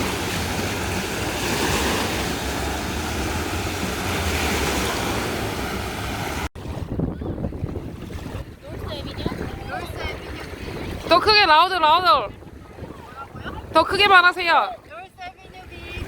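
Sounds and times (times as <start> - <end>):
waves washing onto sandy beach: 0.0 - 16.0
wind rumbling on microphone: 0.0 - 16.0.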